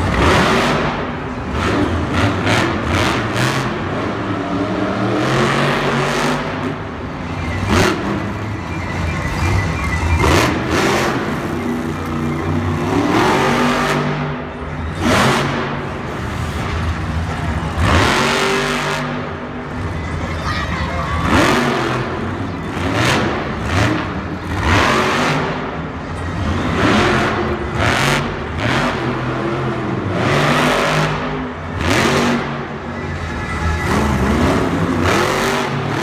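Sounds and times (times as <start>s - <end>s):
truck engines revving: 0.0s - 36.0s.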